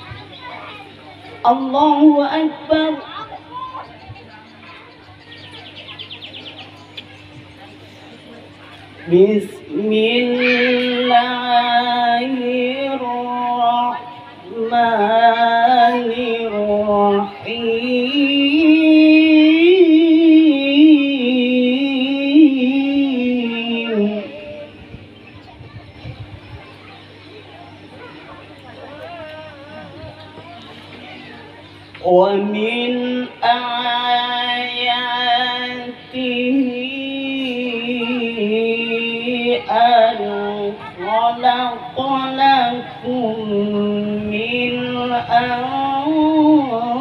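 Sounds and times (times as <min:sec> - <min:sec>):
person reciting in melismatic singing: 0:01.2 - 0:04.2, 0:08.9 - 0:25.2, 0:28.0 - 0:47.0.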